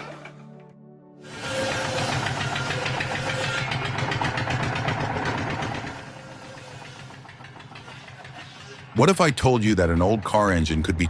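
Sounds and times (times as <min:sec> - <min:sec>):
machine engine rattling: 0:01.3 - 0:11.0.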